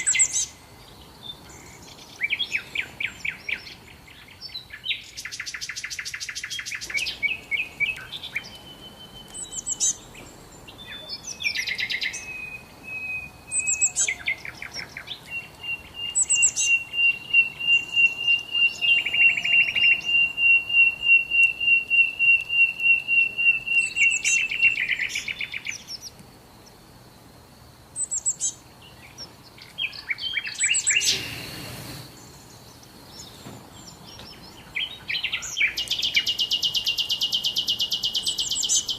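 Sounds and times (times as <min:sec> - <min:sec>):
long rapid bird trill: 0:00.0 - 0:26.1, 0:27.9 - 0:38.9
songbirds chirping and trilling: 0:00.0 - 0:38.9.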